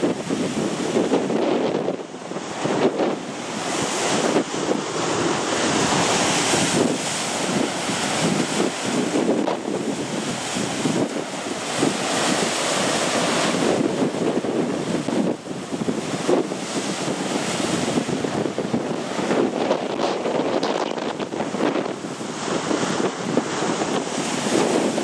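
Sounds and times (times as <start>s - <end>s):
sea surf breaking on rocks: 0.0s - 25.0s
wind buffeting microphone: 0.0s - 25.0s.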